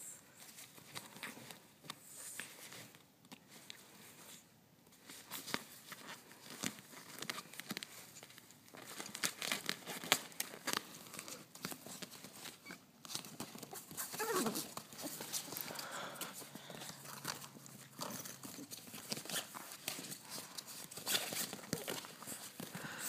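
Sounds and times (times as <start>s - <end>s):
nylon fabric rustling and crinkling: 0.3s - 23.0s.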